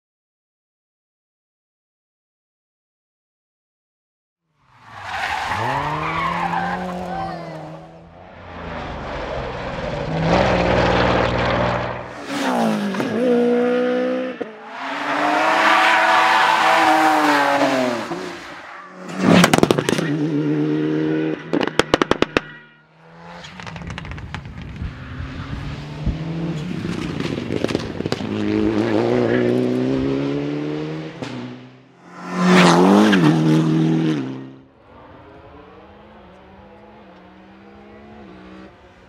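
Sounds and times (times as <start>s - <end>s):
rally cars revving past: 4.7s - 22.4s, 23.0s - 39.0s.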